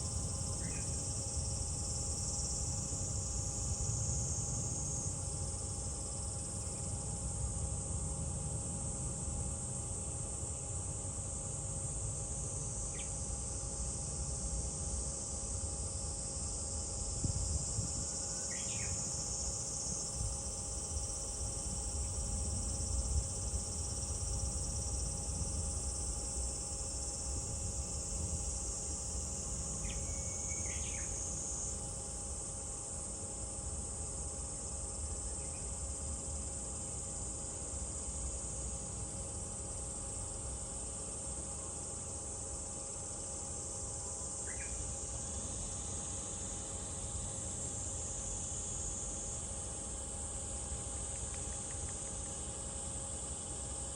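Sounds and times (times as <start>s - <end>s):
cicada chorus drone: 0.0s - 53.9s.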